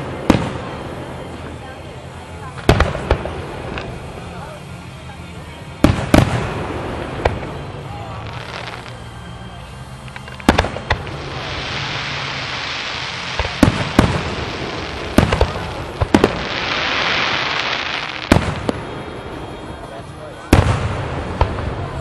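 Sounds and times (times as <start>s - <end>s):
firework hiss: 0.0s - 22.0s.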